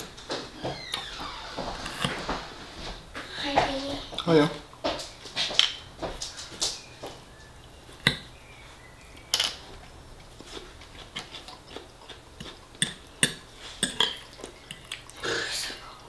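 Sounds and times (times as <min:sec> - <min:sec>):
quiet eating sounds: 0:00.0 - 0:16.0.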